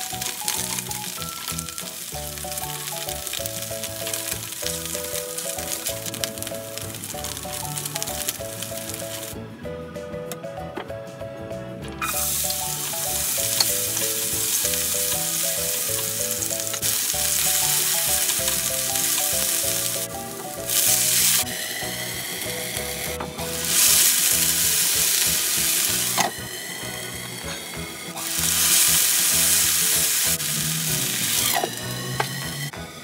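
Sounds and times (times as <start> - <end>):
potato sizzling in hot oil: 0.0 - 9.4, 12.0 - 32.9
soft background music: 0.0 - 33.0.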